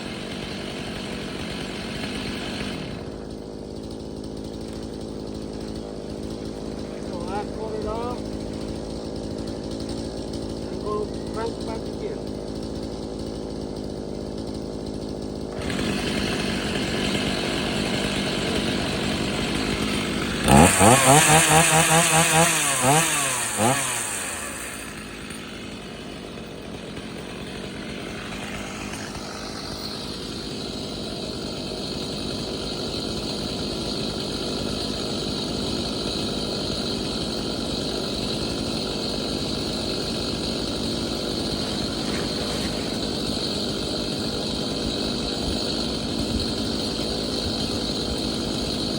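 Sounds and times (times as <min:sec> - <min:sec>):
chainsaw engine revving and idling: 0:00.0 - 0:48.9.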